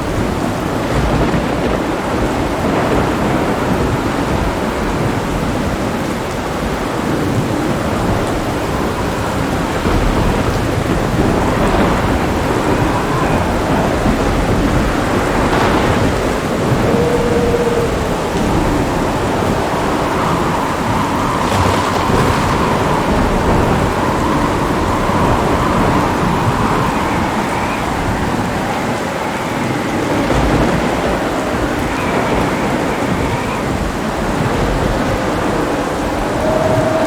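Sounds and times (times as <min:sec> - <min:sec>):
deep rolling thunder: 0:00.0 - 0:37.0
heavy rain: 0:00.0 - 0:37.0.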